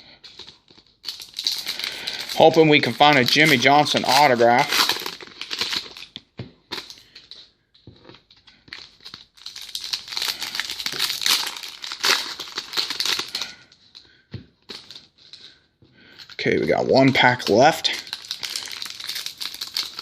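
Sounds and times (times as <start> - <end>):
foil wrapper crinkling and tearing: 0.3 - 7.4, 8.0 - 14.0, 14.7 - 15.4, 16.2 - 20.0.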